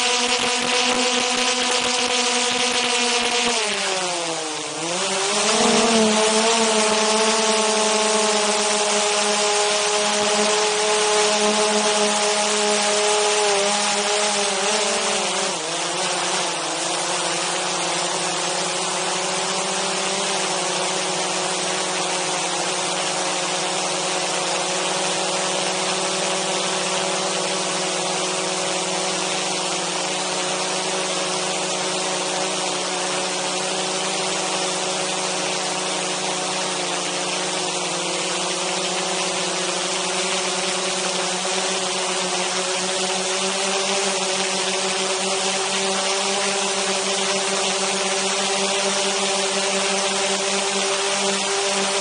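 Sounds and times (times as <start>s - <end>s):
drone propellers whirring: 0.0s - 52.0s.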